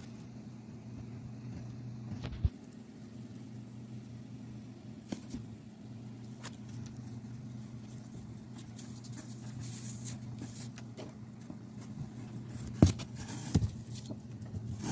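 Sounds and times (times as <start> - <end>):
low electrical hum: 0.0 - 14.9.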